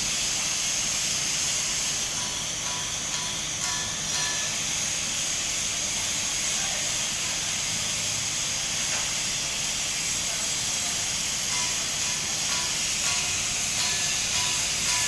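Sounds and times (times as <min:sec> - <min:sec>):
welding arc hissing: 0:00.0 - 0:15.0.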